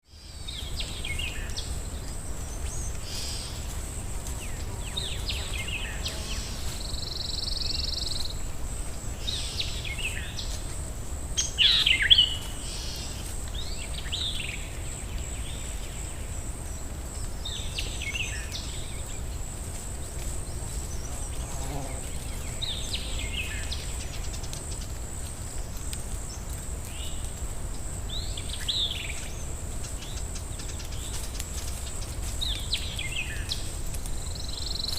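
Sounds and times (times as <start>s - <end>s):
songbirds chirping: 0.0s - 34.9s
wind in the trees: 0.0s - 34.9s.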